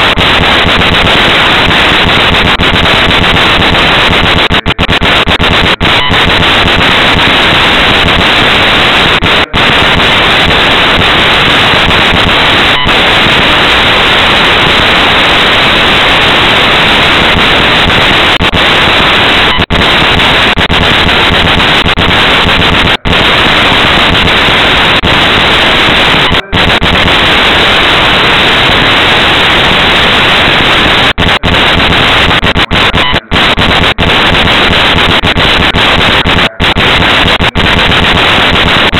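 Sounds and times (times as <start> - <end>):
microphone hiss: 0.0 - 38.9.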